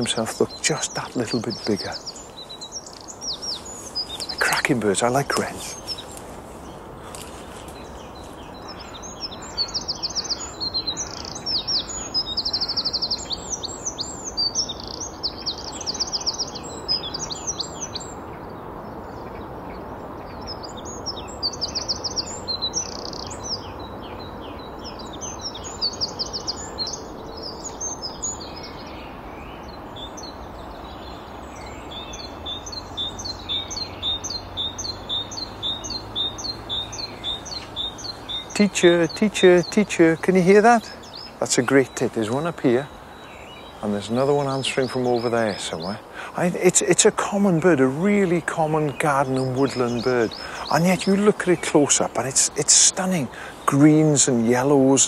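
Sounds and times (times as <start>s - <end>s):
wren trilling song: 0.0s - 55.0s.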